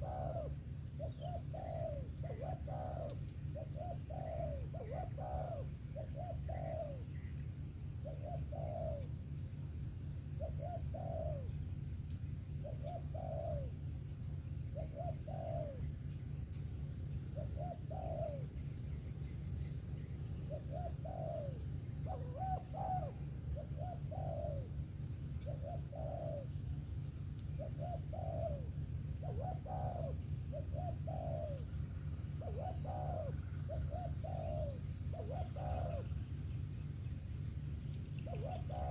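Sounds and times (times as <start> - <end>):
dove cooing: 0.0 - 36.4, 37.6 - 38.9
steady low hum: 0.0 - 38.9.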